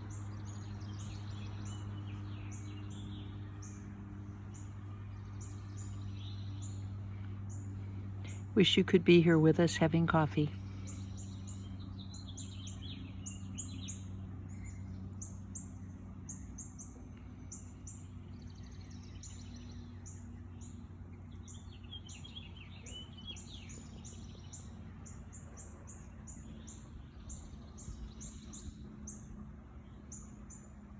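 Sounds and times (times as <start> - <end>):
birds chirping: 0.0 - 30.9
steady low hum: 0.0 - 30.9.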